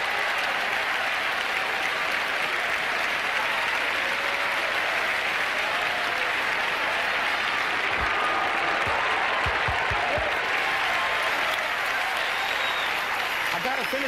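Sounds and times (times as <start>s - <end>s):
large crowd applauding: 0.0s - 14.0s.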